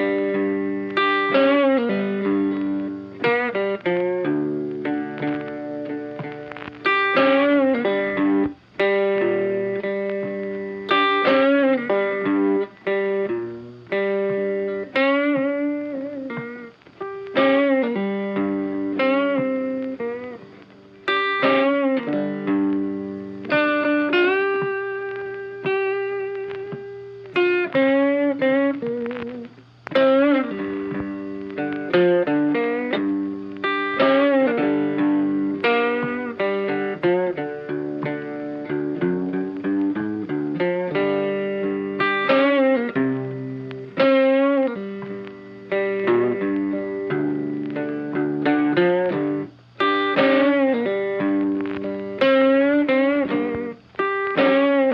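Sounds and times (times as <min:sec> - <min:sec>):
funky plucked electric guitar riff: 0:00.0 - 0:54.9.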